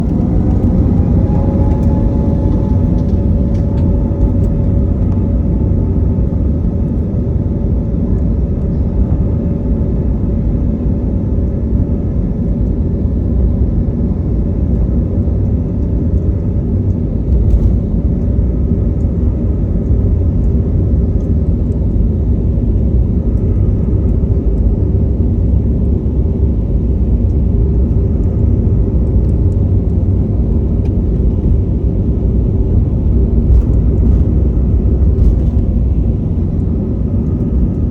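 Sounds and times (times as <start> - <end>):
airplane engines at takeoff: 0.0 - 37.9.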